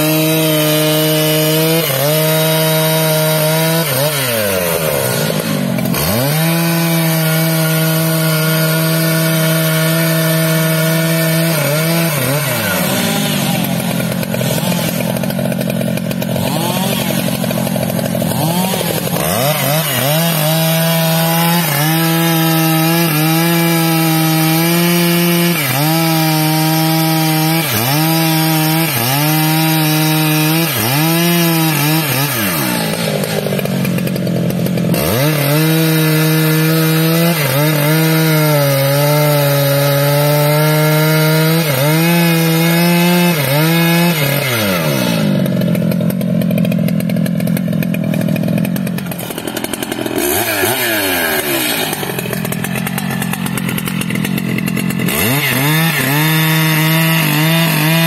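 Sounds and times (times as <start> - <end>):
chainsaw sawing into wood: 0.0 - 58.0.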